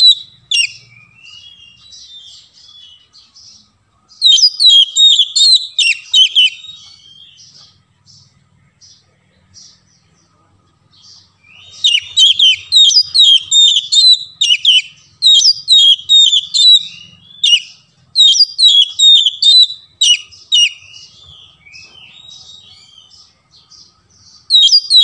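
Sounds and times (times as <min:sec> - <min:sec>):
bird whistling song: 0:00.0 - 0:08.3, 0:10.9 - 0:25.0
bird twittering: 0:00.0 - 0:10.3, 0:10.9 - 0:25.0.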